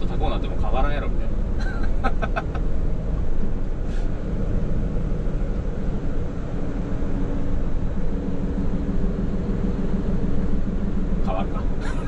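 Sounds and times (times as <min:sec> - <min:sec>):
diesel truck engine drone: 0:00.0 - 0:12.0
tyre and road noise: 0:00.0 - 0:12.0.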